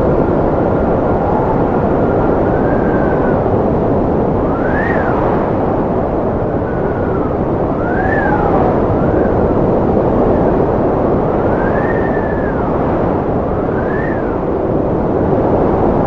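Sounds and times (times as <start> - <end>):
high wind whistling: 0.0 - 16.0
strong wind rushing: 0.0 - 16.0.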